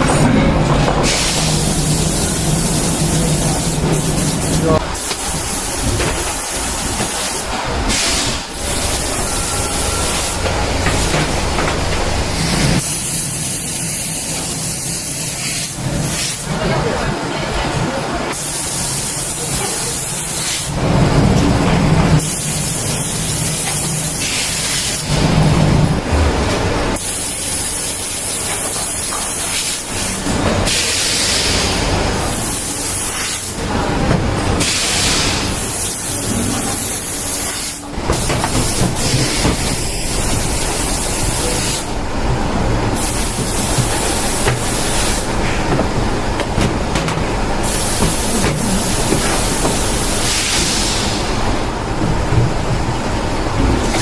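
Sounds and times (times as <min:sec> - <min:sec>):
workshop machinery hissing: 0:00.0 - 0:54.0.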